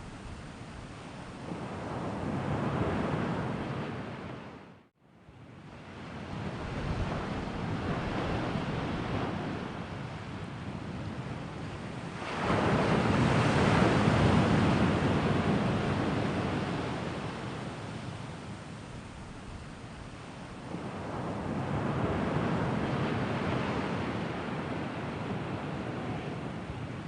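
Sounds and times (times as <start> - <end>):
ocean waves washing on shore: 0.0 - 4.7, 5.4 - 27.0.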